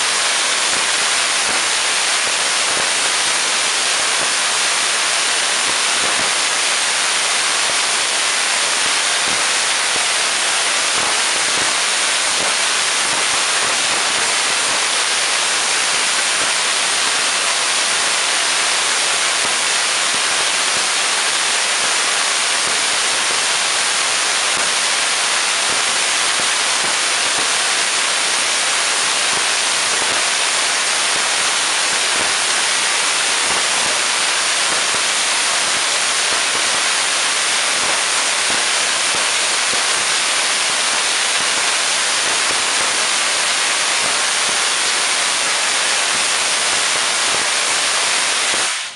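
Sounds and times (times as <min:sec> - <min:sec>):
crackling hiss of sparks: 0:00.0 - 0:48.9.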